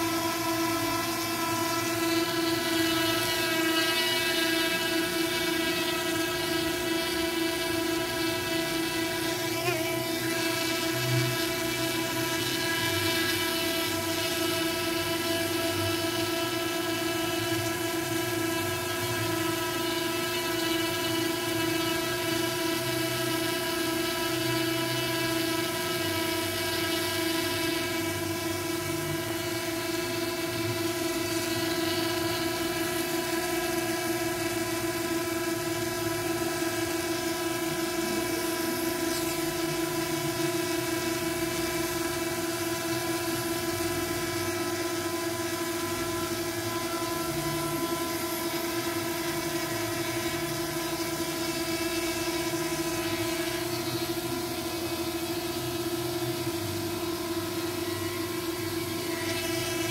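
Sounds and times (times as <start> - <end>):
steady hum with whine: 0.0 - 59.9.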